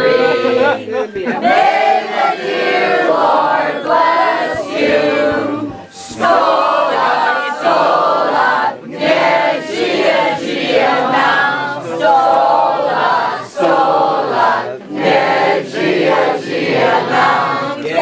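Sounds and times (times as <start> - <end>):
group singing in chorus: 0.0 - 18.0.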